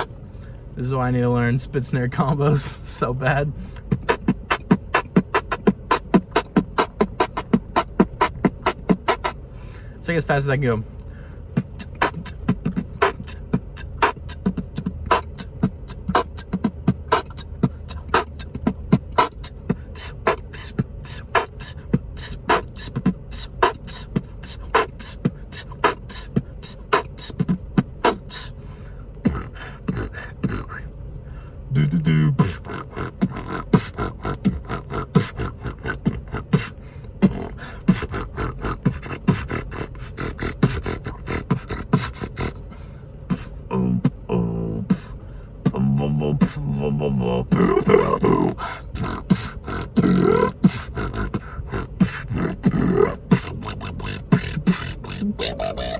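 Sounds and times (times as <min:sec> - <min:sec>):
beatboxing: 0:02.0 - 0:10.6, 0:11.5 - 0:30.9, 0:31.7 - 0:55.9.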